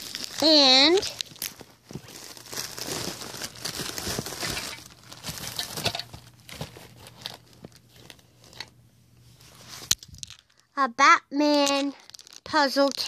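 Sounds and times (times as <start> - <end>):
plastic packaging crinkling: 0.0 - 8.8, 9.4 - 10.7, 11.5 - 13.0.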